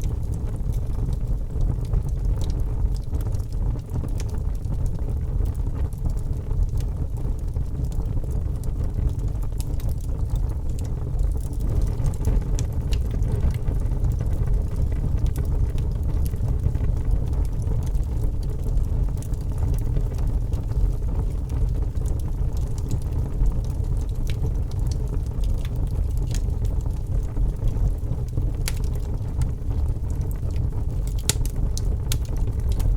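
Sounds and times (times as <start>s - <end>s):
fire crackling and popping: 0.0s - 32.9s
fire flames rumbling: 0.0s - 32.9s.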